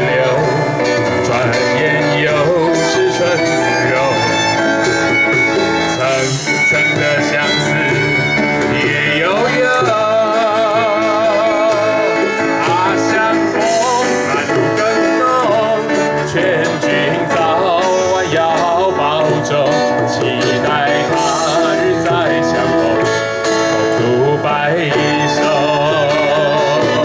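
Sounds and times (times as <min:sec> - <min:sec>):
song with plucked strings: 0:00.0 - 0:27.0.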